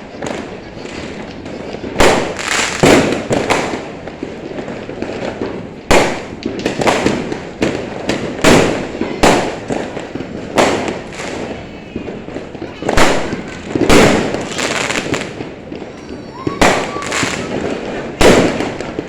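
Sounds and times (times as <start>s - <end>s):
distant firework bursts: 0.0s - 19.0s
fireworks banging and crackling: 0.0s - 19.0s.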